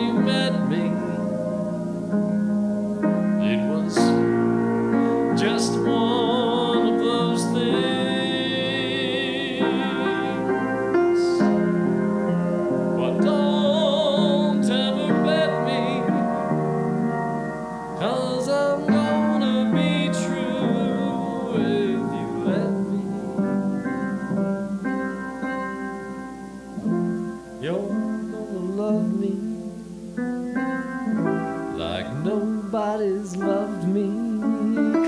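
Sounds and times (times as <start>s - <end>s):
slow piano ballad: 0.0s - 35.0s.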